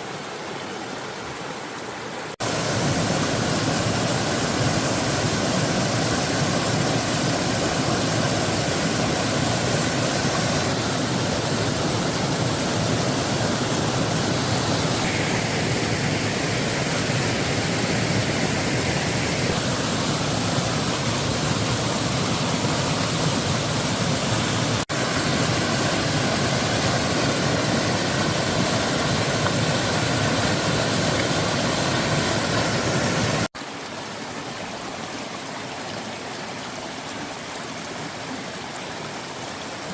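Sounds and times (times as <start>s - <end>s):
water flowing quietly: 0.0s - 39.9s
water rushing: 0.0s - 39.9s.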